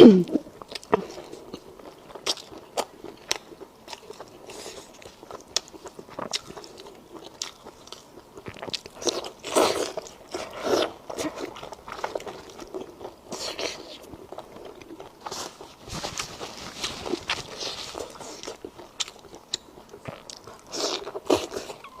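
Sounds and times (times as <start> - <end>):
person chewing crunchy food: 0.5 - 22.0.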